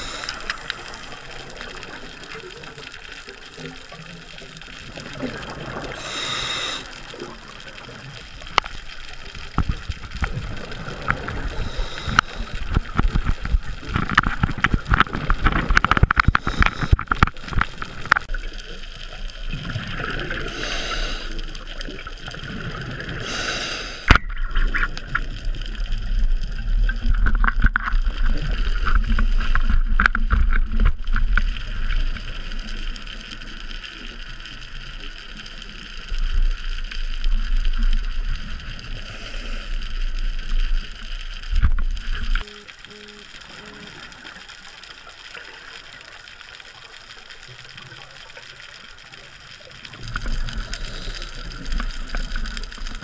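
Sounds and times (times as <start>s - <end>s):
exhaled bubbles hissing: 0.0s - 27.3s, 31.1s - 46.4s, 47.0s - 53.0s
underwater water noise: 0.0s - 53.0s.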